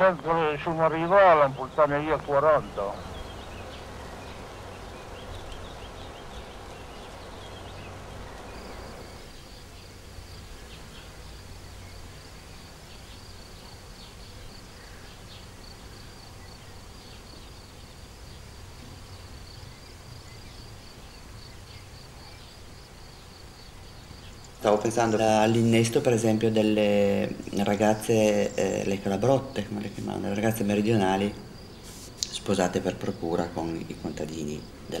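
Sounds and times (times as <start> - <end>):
insects trilling: 0.0 - 35.0
low steady background noise: 0.0 - 35.0.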